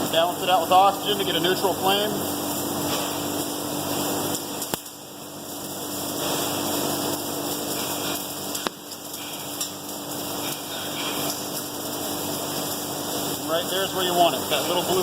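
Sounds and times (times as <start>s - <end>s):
welding torch flame hissing: 0.0s - 15.0s.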